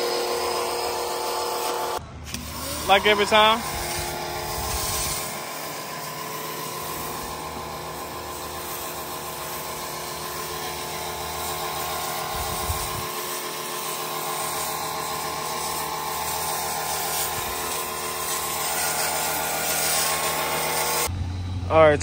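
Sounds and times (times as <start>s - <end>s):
water jet hissing on car: 0.0s - 21.1s
pressure washer motor whining: 0.0s - 21.6s.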